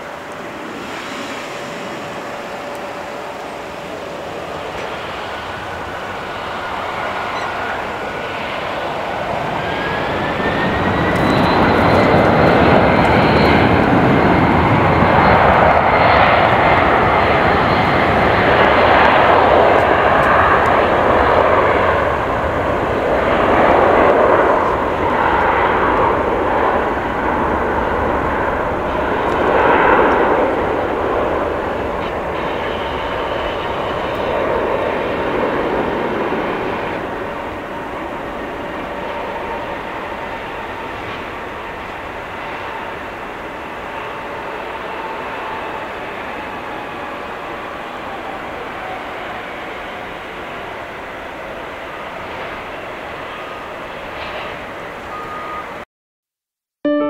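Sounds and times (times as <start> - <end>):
jet engines whining and roaring: 0.0 - 55.9.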